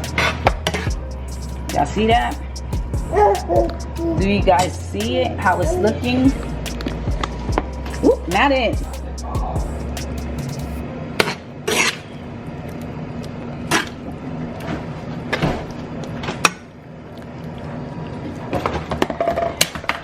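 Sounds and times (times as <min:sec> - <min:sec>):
steady low hum: 0:00.0 - 0:18.5.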